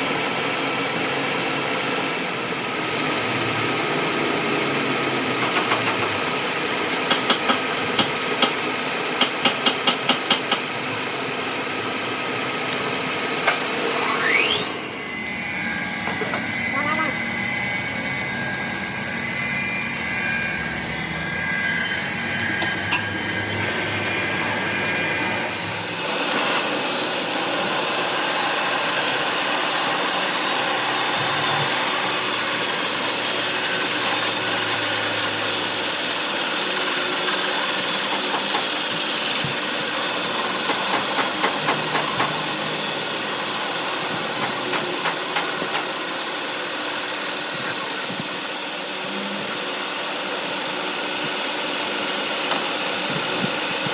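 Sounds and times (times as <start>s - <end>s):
metalworking machine hissing: 0.6s - 53.9s.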